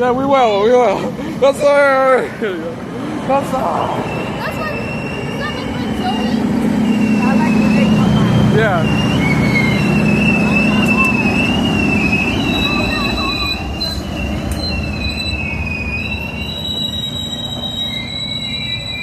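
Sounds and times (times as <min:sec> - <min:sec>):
train rumble: 0:00.0 - 0:19.0
train wheel squeal: 0:03.6 - 0:19.0.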